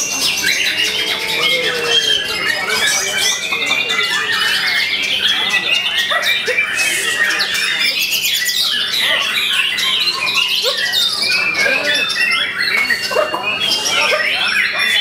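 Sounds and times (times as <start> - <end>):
bird whistling and trilling: 0.0 - 15.0
chorus of songbirds: 0.0 - 15.0.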